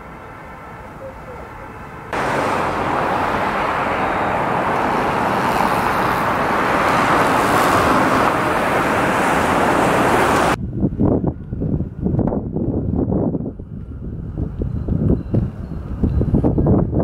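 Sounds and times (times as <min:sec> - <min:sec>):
road traffic rush: 0:00.0 - 0:16.7.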